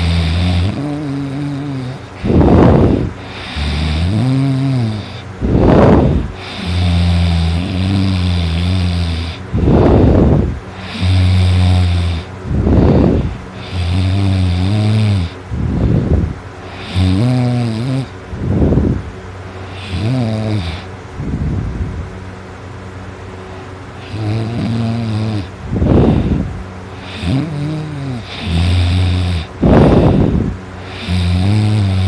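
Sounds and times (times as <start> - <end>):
person snoring: 0.0 - 18.9, 19.6 - 20.9, 24.0 - 32.0.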